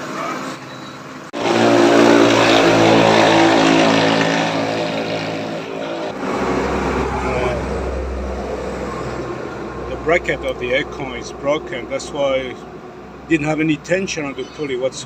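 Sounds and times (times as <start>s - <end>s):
car engine running: 1.4s - 15.0s.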